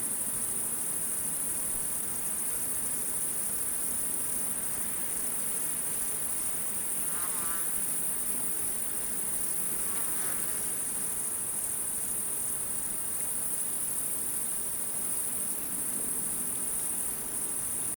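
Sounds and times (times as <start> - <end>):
night insect chorus: 0.0 - 18.0.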